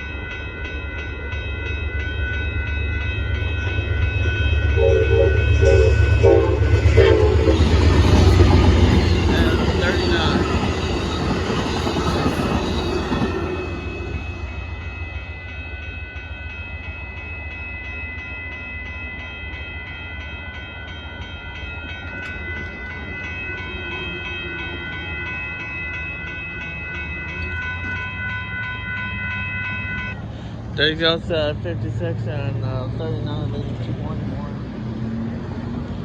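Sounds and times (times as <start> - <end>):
crossing bell ringing: 0.0 - 36.0
passenger train passing: 0.0 - 36.0.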